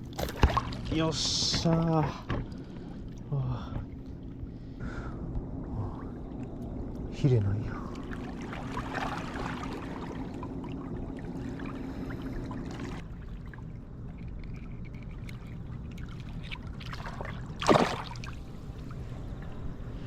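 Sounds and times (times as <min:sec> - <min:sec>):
water trickling and lapping: 0:00.0 - 0:20.0.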